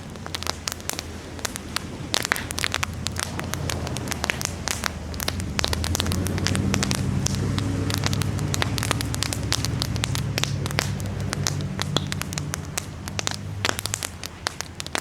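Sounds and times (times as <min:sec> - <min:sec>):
campfire crackling and popping: 0:00.0 - 0:15.0
low steady hum: 0:00.0 - 0:15.0.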